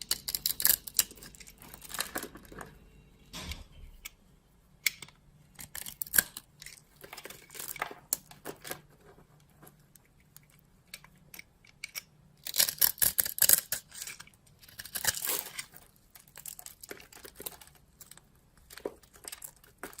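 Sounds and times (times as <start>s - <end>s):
dry soap crunching: 0.0s - 2.8s, 5.5s - 20.0s.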